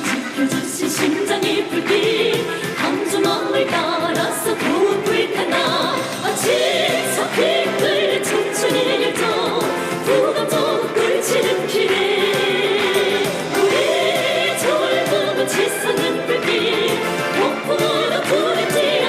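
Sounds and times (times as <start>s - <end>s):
pop band with drum beat: 0.0s - 19.0s
women singing with vibrato: 0.0s - 19.0s.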